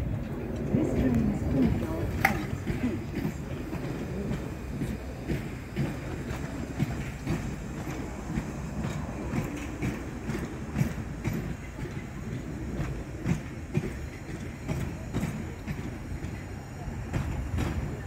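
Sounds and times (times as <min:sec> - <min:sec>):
train rumbling past: 0:00.0 - 0:18.0
wheels clicking over track: 0:00.0 - 0:18.0.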